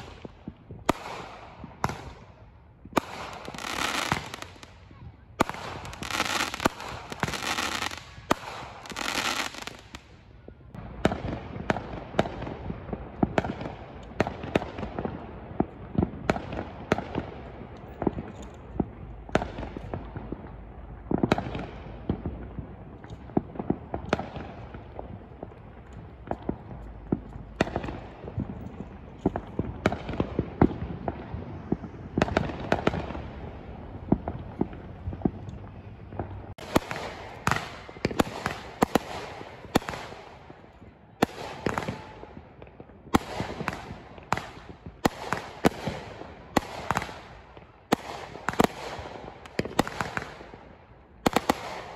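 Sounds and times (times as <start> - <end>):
firework bangs and pops: 0.0 - 51.9
continuous rumble and crackle: 9.8 - 51.9.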